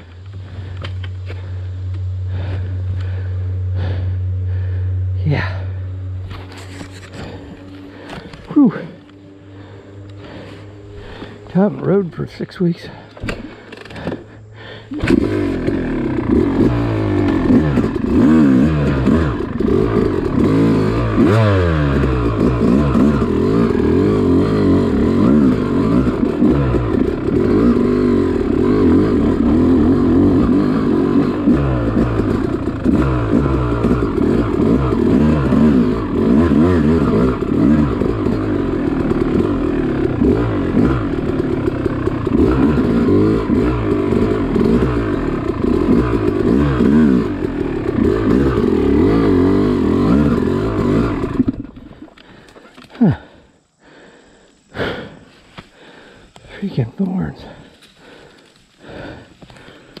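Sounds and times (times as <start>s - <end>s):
dirt bike engine revving: 0.0s - 60.0s.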